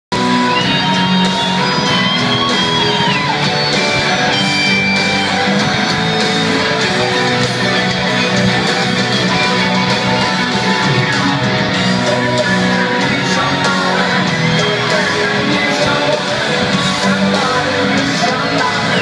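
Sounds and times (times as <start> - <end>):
live rock band playing: 0.1 - 19.0.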